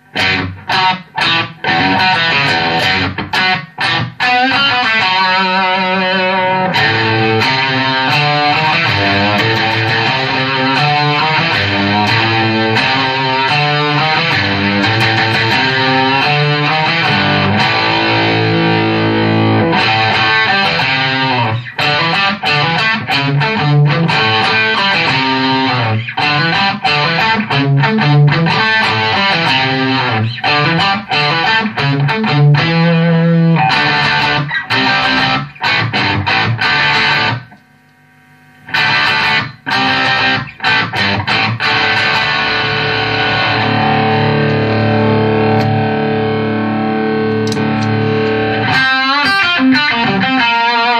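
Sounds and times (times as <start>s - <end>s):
overdriven electric guitar riffs: 0.0s - 50.9s.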